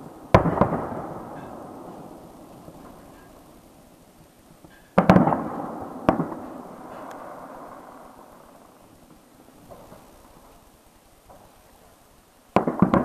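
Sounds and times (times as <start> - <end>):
firework shells bursting: 0.0 - 3.6, 4.5 - 11.7, 12.5 - 13.0.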